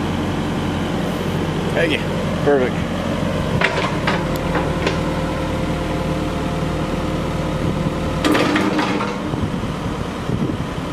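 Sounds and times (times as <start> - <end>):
diesel engine idling: 0.0 - 10.9.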